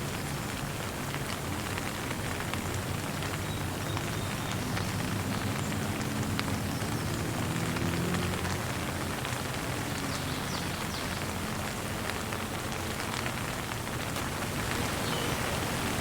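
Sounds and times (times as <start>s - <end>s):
rain drops ticking: 0.0s - 16.0s.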